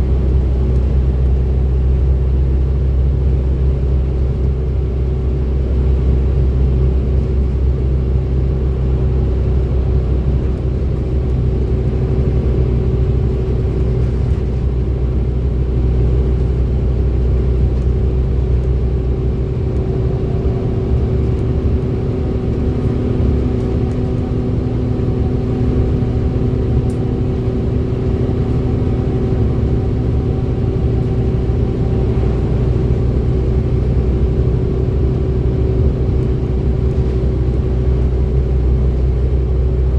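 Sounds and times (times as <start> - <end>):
bus diesel engine rumbling: 0.0 - 39.9
high engine whine: 0.0 - 39.9.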